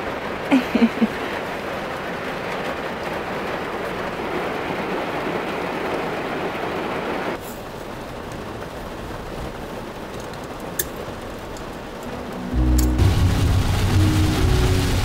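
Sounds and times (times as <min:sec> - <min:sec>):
heavy rain on a vehicle roof: 0:00.0 - 0:15.0.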